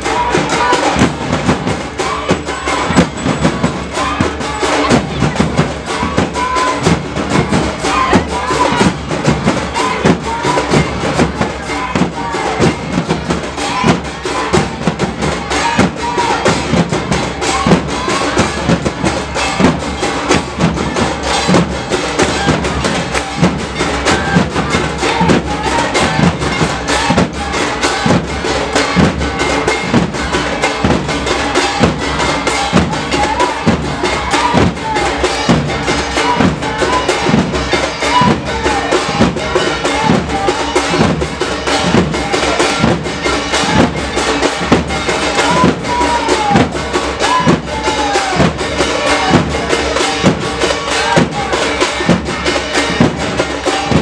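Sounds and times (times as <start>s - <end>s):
drums beating steady rhythm: 0.0s - 54.0s
percussion: 0.0s - 54.0s.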